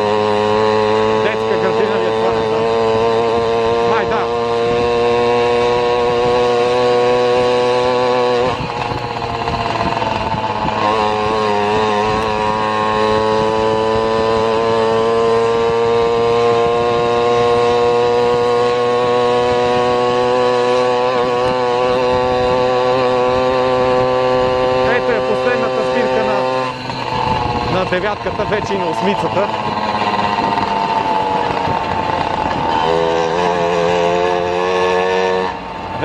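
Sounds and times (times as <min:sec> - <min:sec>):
vehicle engine buzzing: 0:00.0 - 0:36.0.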